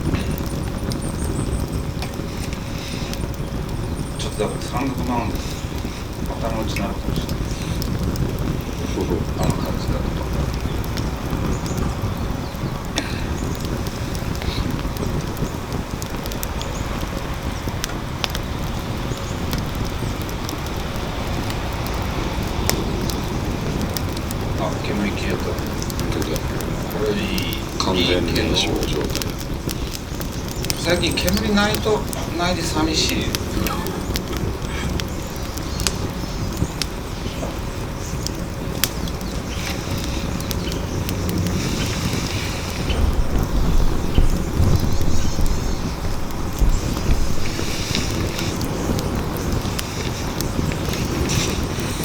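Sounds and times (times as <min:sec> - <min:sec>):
fire crackles and pops: 0:00.0 - 0:52.0
fire rushing air: 0:00.0 - 0:52.0.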